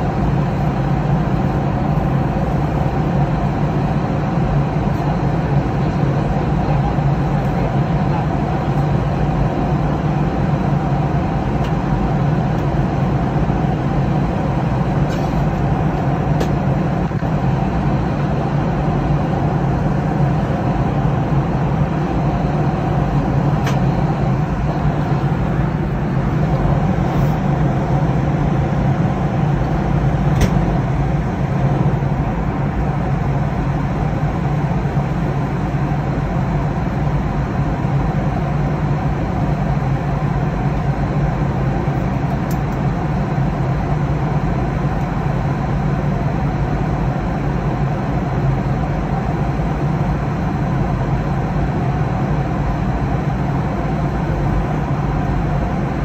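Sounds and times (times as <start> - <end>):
jet cabin engine drone: 0.0 - 56.0.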